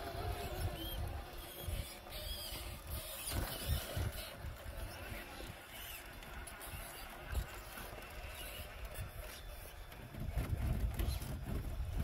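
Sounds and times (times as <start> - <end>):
toy car motor whirring: 0.0 - 12.0
wind buffeting microphone: 0.0 - 12.0.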